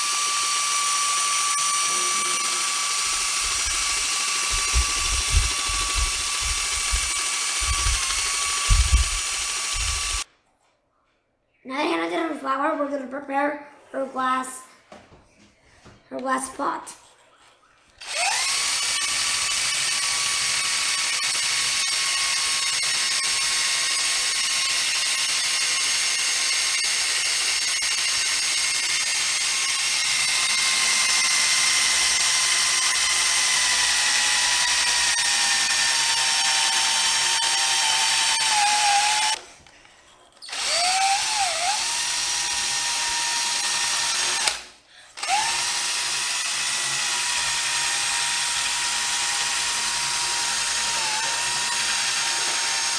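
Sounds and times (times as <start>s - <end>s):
power drill whining on glass: 0.0s - 10.3s, 18.0s - 52.9s.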